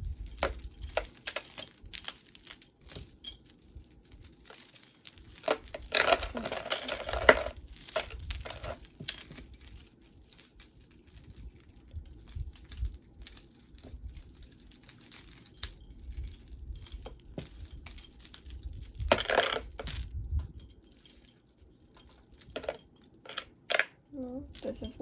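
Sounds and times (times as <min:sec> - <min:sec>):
necklace rustling: 0:00.0 - 0:25.0
beads clicking: 0:00.1 - 0:25.0.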